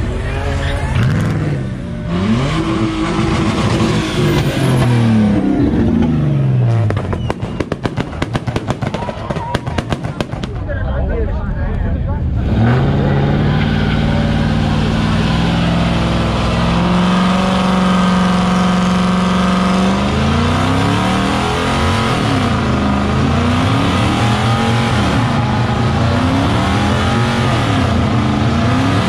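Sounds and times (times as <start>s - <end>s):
car engine revving: 0.0s - 10.7s, 11.8s - 29.0s.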